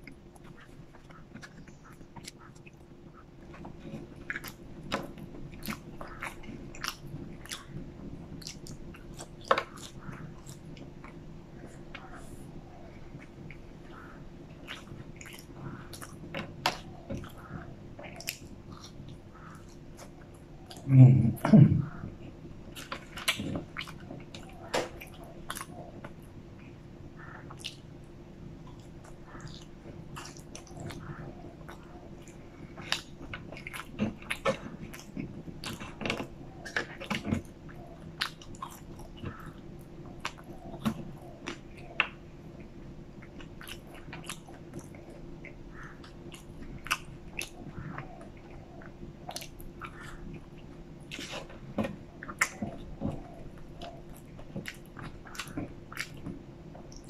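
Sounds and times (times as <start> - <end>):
chewing with wet mouth clicks: 0.0 - 20.9, 22.0 - 57.0
faint steady hum: 0.0 - 57.0.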